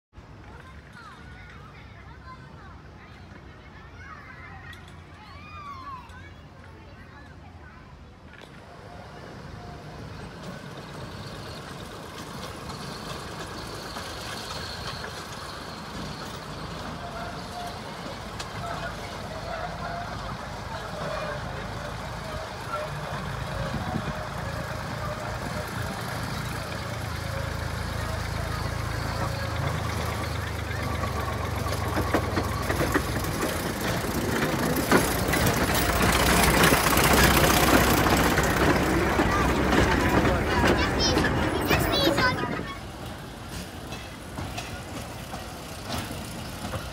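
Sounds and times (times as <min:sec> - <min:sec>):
wheels rumbling on rail: 0:00.2 - 0:46.9
diesel locomotive engine running: 0:07.9 - 0:46.9.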